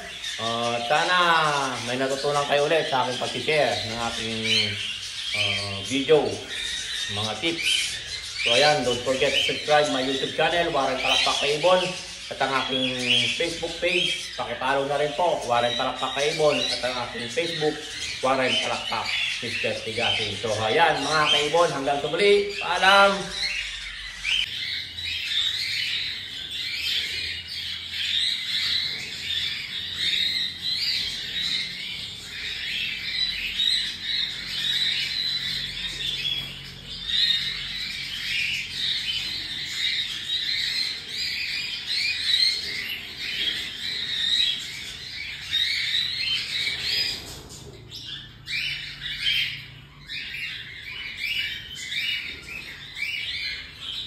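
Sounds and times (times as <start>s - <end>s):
baby cockatiels calling: 0.0s - 54.0s.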